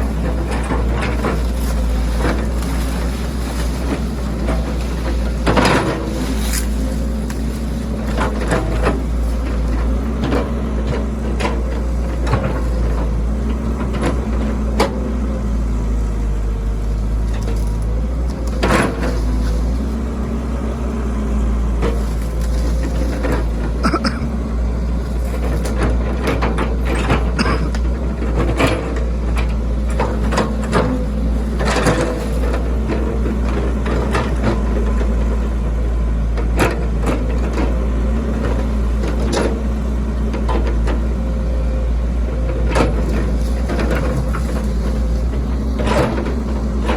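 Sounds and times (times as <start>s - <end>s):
excavator bucket clanking: 0.0s - 46.9s
excavator diesel engine running: 0.0s - 46.9s.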